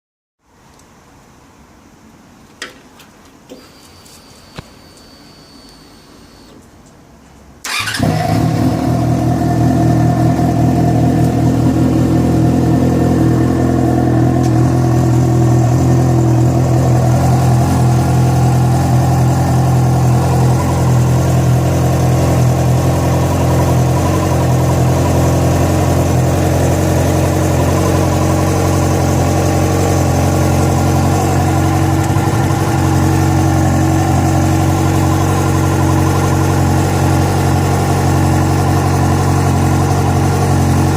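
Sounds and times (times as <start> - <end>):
motorcycle engine idling: 7.7 - 40.9.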